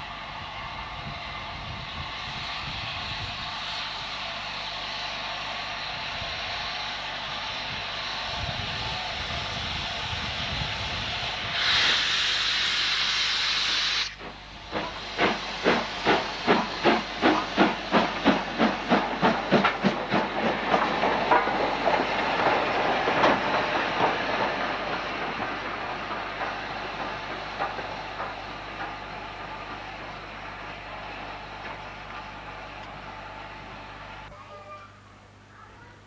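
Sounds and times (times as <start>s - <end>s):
steam locomotive hissing: 0.0s - 34.8s
locomotive exhaust chuffs: 3.1s - 34.3s.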